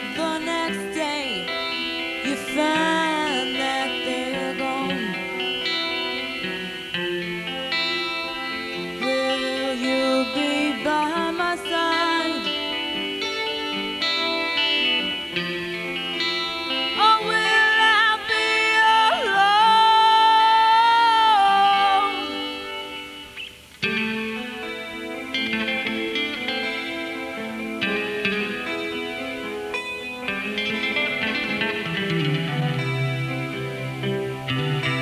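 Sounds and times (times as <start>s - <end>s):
acoustic guitar chords: 0.0s - 35.0s
guitar lead line: 0.0s - 35.0s.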